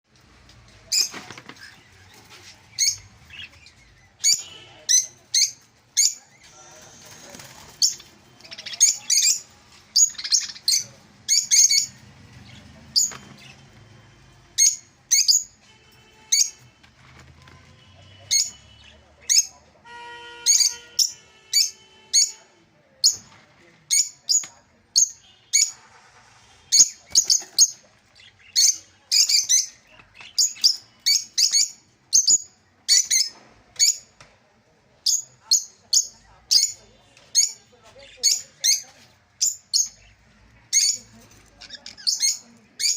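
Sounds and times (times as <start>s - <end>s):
cage birds chirping: 0.1s - 19.8s, 20.4s - 42.9s.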